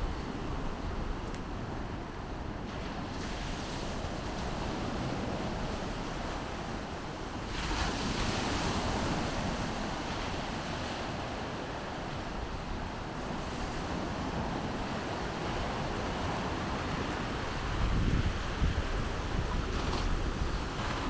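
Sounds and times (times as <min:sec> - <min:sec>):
waves breaking on beach: 0:00.0 - 0:21.0
wind rumble on microphone: 0:00.0 - 0:21.0.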